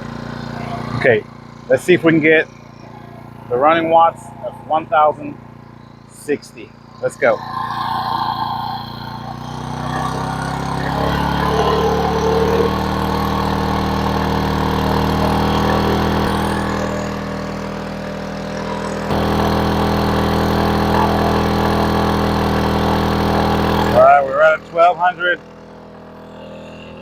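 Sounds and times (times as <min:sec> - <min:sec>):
generator engine running hard: 0:00.0 - 0:27.0.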